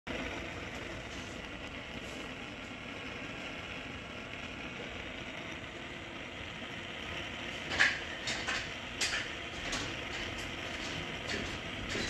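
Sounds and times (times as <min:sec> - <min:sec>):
gas burner rushing: 0:00.1 - 0:12.0.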